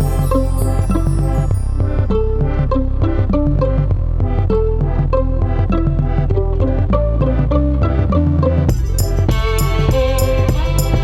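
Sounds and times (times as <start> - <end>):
light beat: 0.0 - 7.6, 8.7 - 11.0
plucked string notes: 0.0 - 11.0
steady bass: 0.0 - 11.0.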